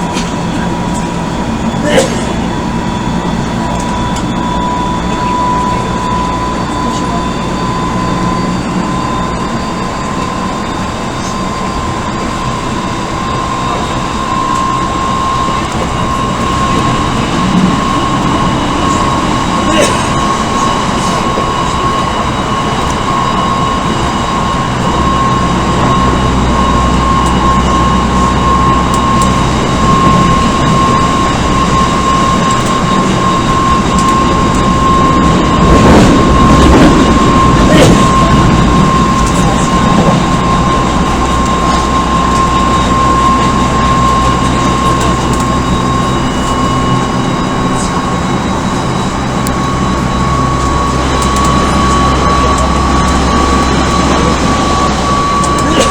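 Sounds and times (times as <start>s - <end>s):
electric train motor whine: 0.0s - 55.9s
train rolling noise: 0.0s - 55.9s.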